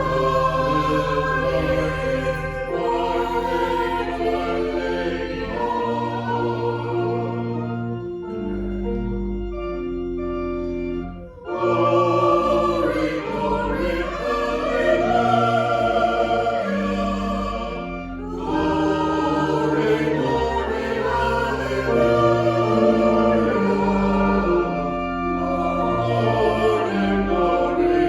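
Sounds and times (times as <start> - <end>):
choir singing: 0.0 - 9.2, 11.2 - 28.0
organ chords: 0.0 - 28.0.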